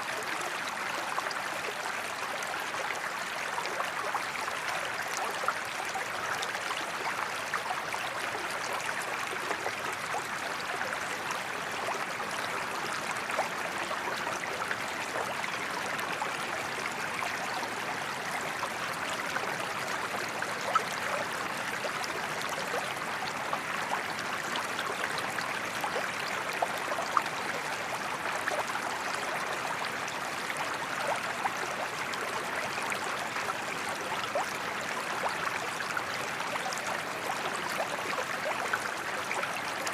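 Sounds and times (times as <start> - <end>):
creek burbling over stones: 0.0 - 39.9.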